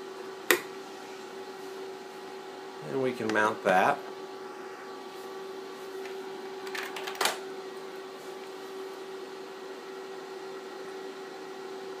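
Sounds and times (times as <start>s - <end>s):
steady drive hum: 0.0s - 12.0s.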